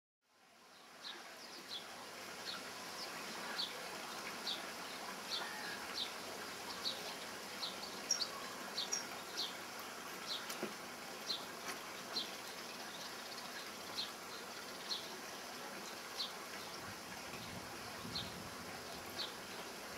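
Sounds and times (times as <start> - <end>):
faint background hiss: 0.3 - 19.9.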